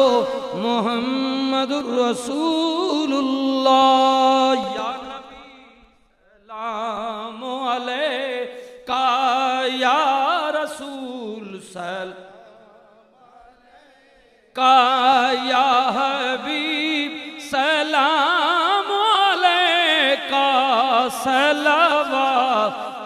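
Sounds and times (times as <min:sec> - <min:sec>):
man chanting: 0:00.0 - 0:23.0.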